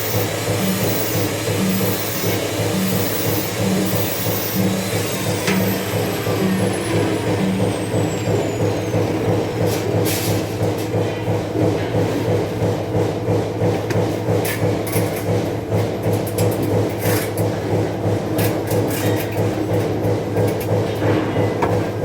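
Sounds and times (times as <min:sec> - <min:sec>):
machinery humming and pulsing: 0:00.0 - 0:22.0.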